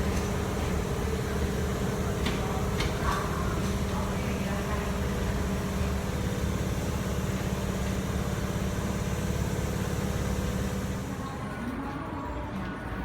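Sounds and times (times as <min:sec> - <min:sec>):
train engine humming: 0:00.0 - 0:11.8.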